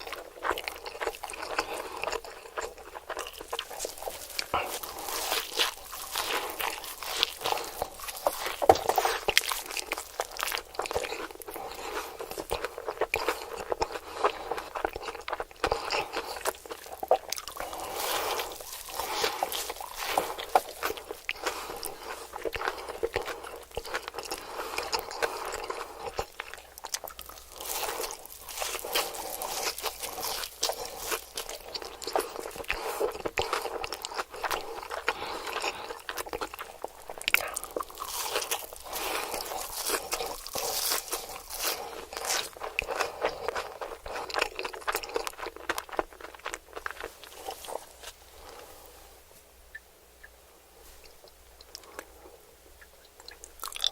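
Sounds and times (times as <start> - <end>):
crunchy chewing: 0.0 - 49.1, 49.7 - 53.9.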